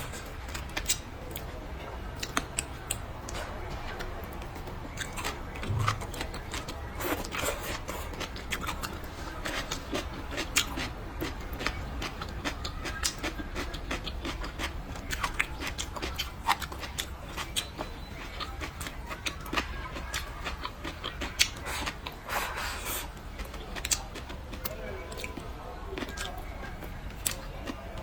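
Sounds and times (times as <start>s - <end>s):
wet chewing and lip-smacking: 0.0s - 28.0s.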